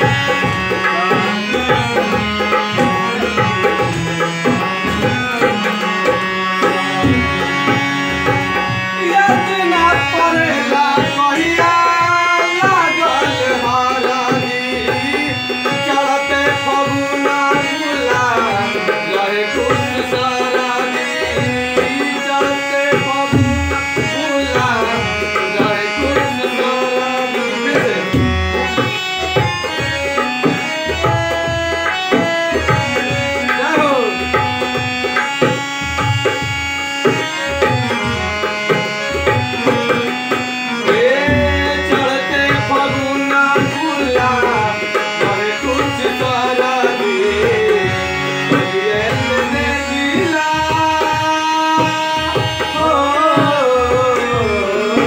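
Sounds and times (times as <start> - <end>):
harmonium melody: 0.0 - 55.0
man singing: 0.0 - 55.0.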